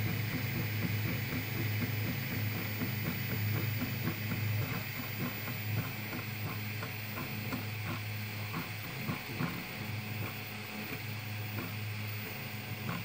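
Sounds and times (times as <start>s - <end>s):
printer motors humming and whining: 0.0s - 13.0s.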